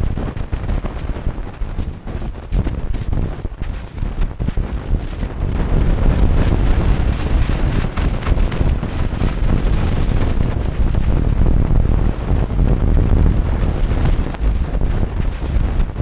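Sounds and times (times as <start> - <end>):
rough rumble and crackle: 0.0 - 16.0.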